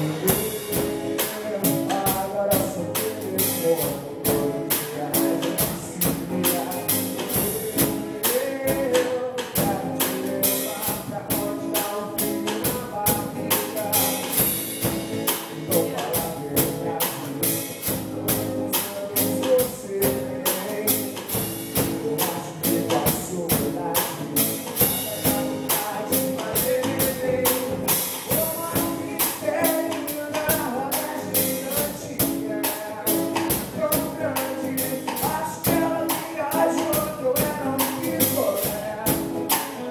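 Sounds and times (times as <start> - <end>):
band playing upbeat song: 0.0 - 39.9.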